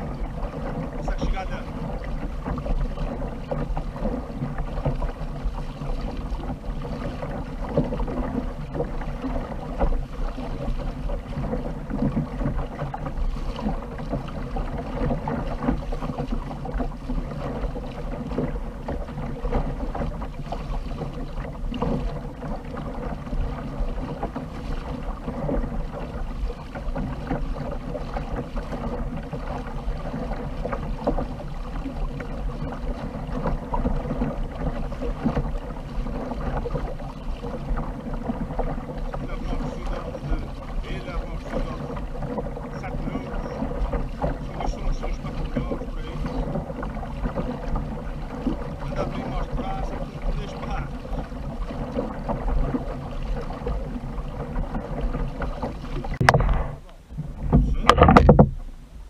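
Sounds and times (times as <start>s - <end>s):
water lapping along a hull: 0.0s - 59.0s.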